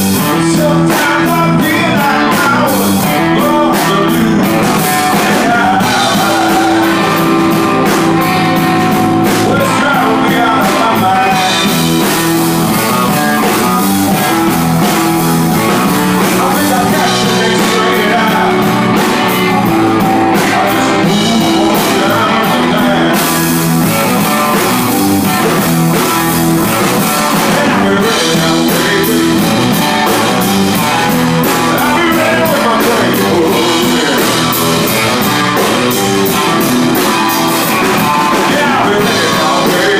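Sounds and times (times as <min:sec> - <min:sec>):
drum kit with cymbals: 0:00.0 - 0:39.9
electric guitar: 0:00.0 - 0:39.9
keyboard: 0:00.0 - 0:39.9.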